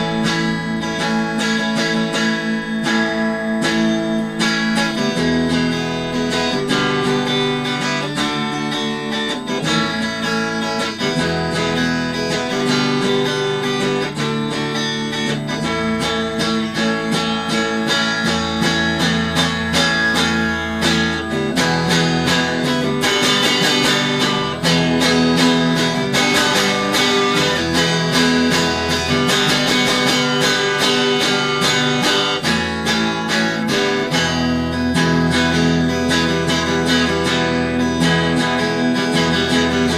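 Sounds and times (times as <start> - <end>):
electric guitar strummed and picked: 0.0 - 39.9.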